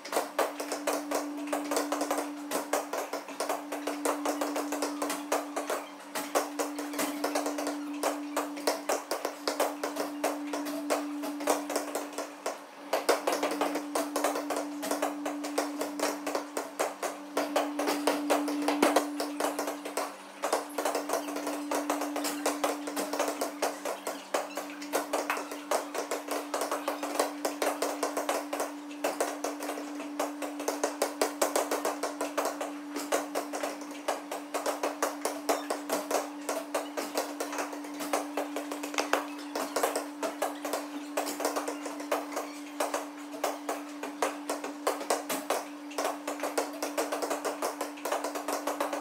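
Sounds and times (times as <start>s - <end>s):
sharp taps and knocks: 0.0s - 49.0s
steady low hum: 0.0s - 49.0s.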